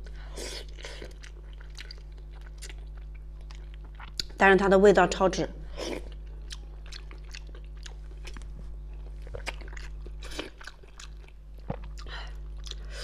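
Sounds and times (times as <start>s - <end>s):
chewing soft food: 0.0s - 4.4s, 5.7s - 13.0s.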